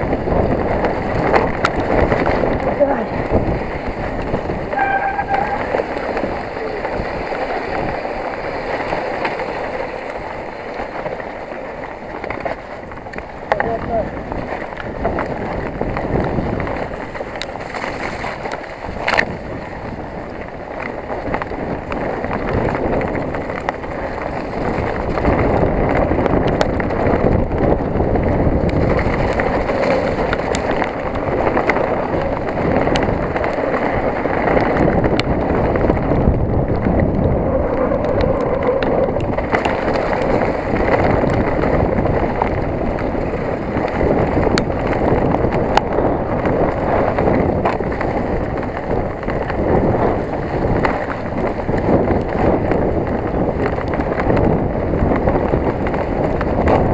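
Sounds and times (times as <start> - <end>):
bike clicks and rattles: 0.0 - 56.9
tyres on trail: 0.0 - 56.9
wind on microphone: 0.0 - 56.9.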